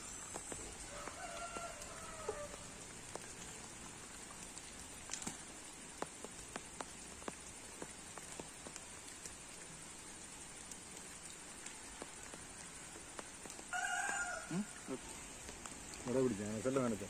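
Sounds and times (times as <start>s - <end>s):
sharp ticks and pats: 0.0s - 17.0s
steady rain hiss: 0.0s - 17.0s.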